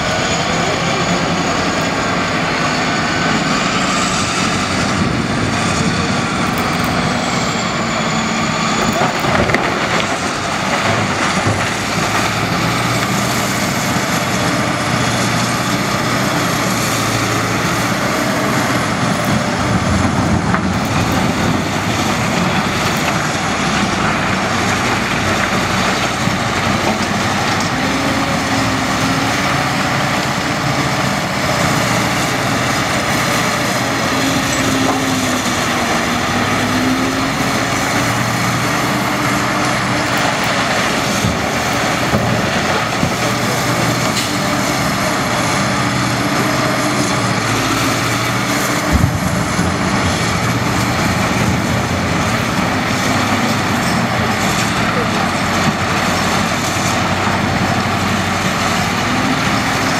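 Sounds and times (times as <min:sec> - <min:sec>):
wheel loader diesel engine: 0:00.0 - 0:59.9.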